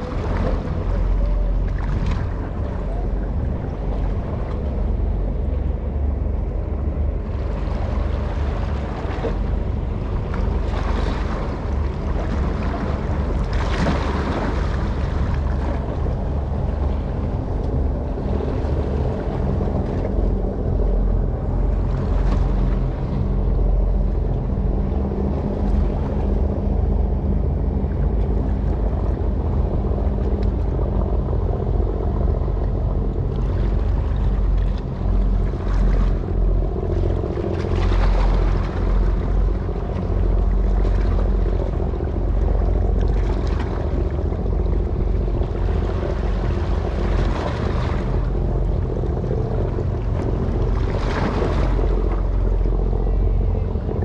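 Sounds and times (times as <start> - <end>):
ship engine rumble: 0.0 - 54.0.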